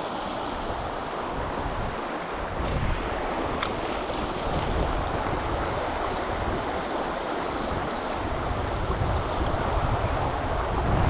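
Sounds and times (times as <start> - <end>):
river water rushing: 0.0 - 11.0
wind rumble on microphone: 0.6 - 11.0.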